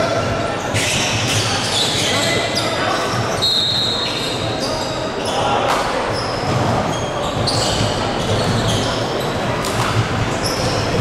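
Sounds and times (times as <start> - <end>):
voices in a hall: 0.0 - 11.0
shoe squeaks on court: 0.6 - 11.0.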